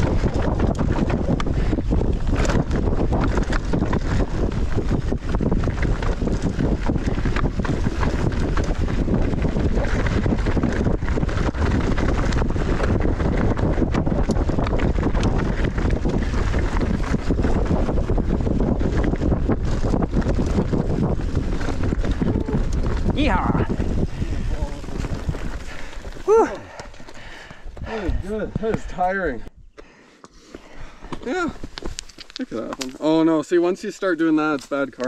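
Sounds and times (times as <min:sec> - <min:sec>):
wind buffeting the microphone: 0:00.0 - 0:35.0.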